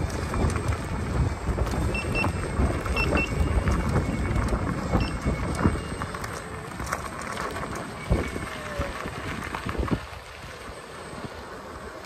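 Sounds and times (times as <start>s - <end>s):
stones clicking under wheels: 0.0s - 12.0s
tyres rolling on gravel: 0.0s - 12.0s
wind rumbling on microphone: 0.0s - 12.0s.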